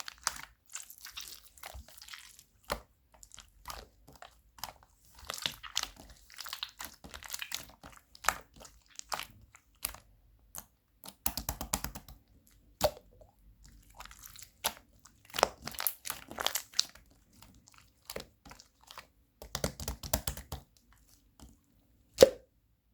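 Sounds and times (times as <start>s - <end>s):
slime crackling and popping: 0.1s - 12.0s, 12.8s - 20.7s.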